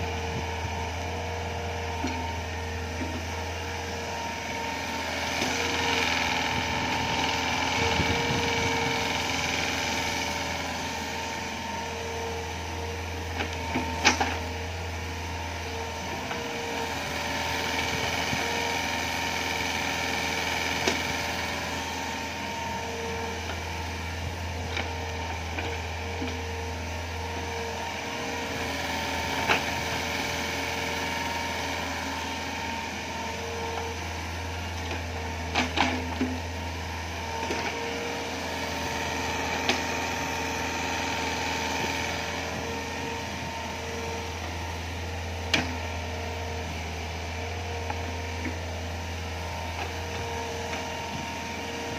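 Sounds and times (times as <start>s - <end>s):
excavator diesel engine running: 0.0s - 51.9s
faint hydraulic whine: 0.0s - 51.9s.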